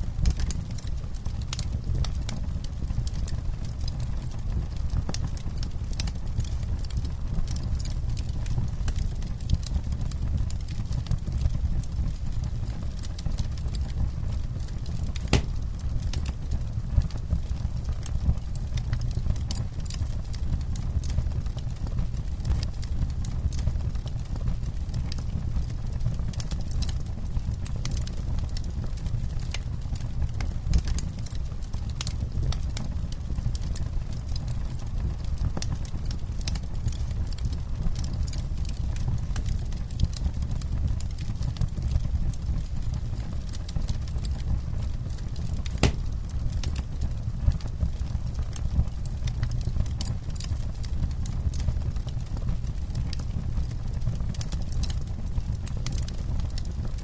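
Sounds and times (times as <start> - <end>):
low rumble of flames: 0.0 - 57.0
campfire crackling and popping: 0.1 - 57.0.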